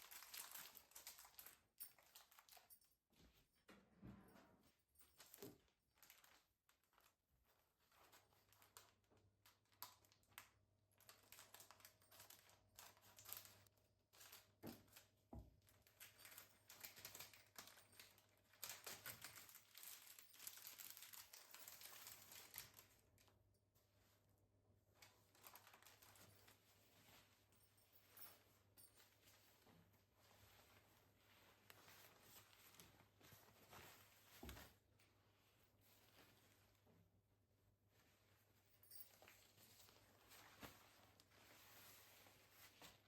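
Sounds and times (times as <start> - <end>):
faint crinkling and rustling: 0.0 - 43.0.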